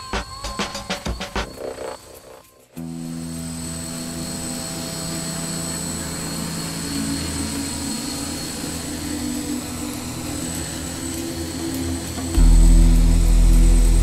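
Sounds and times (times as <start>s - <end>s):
drone motors humming and whining: 0.0s - 14.0s.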